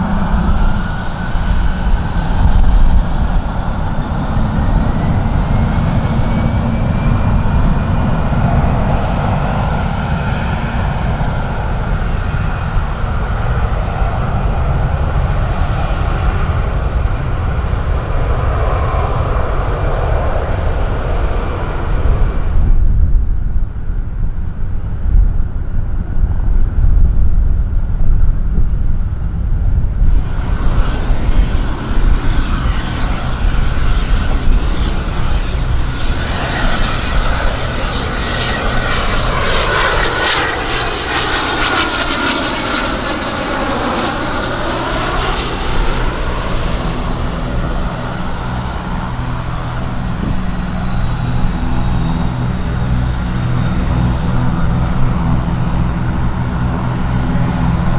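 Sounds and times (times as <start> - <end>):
heavy low rumble: 0.0 - 15.6, 27.0 - 57.9
high engine whine: 0.0 - 23.0, 28.9 - 57.9
airplane flying past: 0.0 - 25.0, 25.6 - 57.9.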